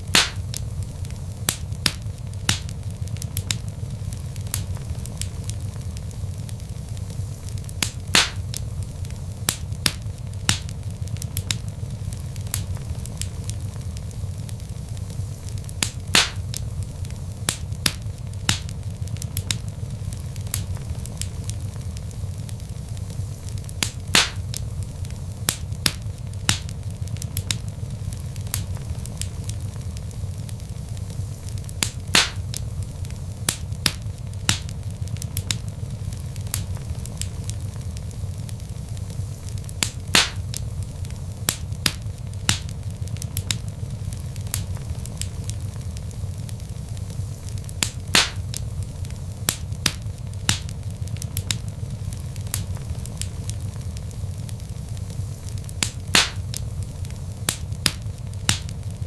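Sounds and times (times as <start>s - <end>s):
fire popping: 0.0s - 59.0s
log fire crackling: 0.0s - 59.0s.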